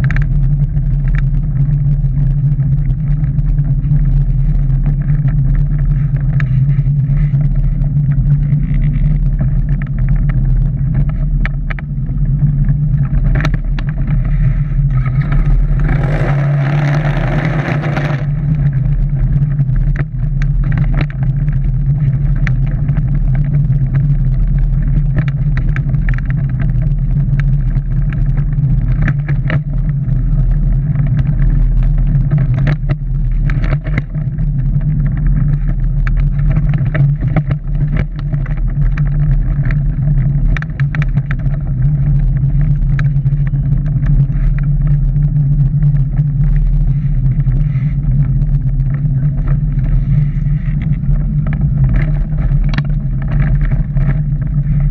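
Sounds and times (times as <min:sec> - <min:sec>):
low drivetrain and tyre drone: 0:00.0 - 0:54.9.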